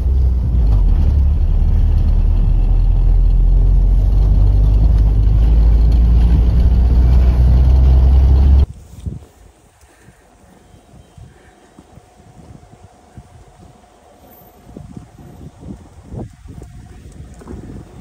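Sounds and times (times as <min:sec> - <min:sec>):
car engine and tyres rumbling: 0:00.0 - 0:10.5, 0:12.8 - 0:18.0.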